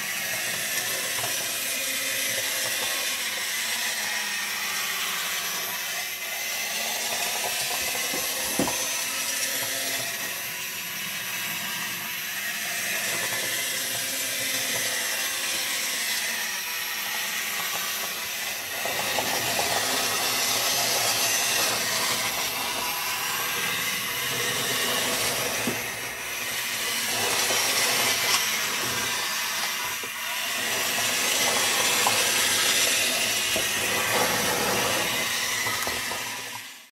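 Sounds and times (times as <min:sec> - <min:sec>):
robot gear motors whirring: 0:00.0 - 0:36.9.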